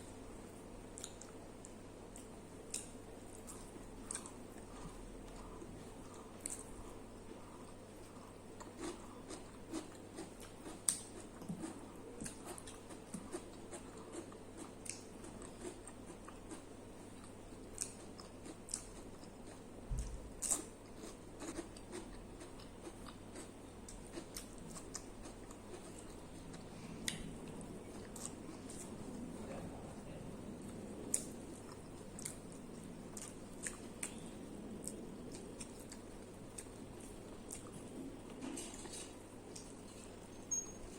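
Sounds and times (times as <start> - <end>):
chewing and crunching: 0.8 - 29.3, 30.5 - 40.2.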